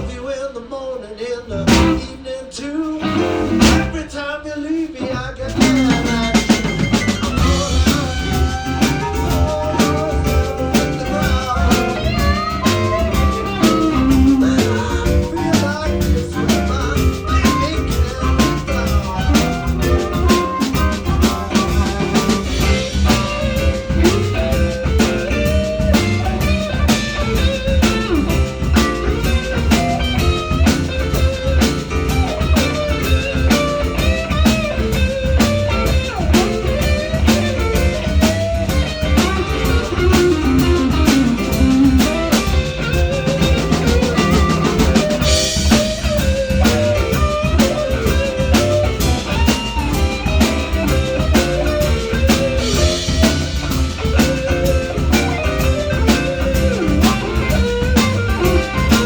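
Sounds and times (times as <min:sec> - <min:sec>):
drum kit beat: 0:00.0 - 0:00.3, 0:01.6 - 0:04.2, 0:04.8 - 0:59.0
blues guitar lines: 0:00.0 - 0:00.5, 0:01.2 - 0:59.0.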